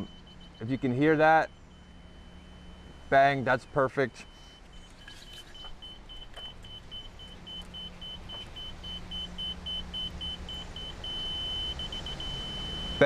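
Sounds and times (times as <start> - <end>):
rapid high beeping: 0.0 - 13.0.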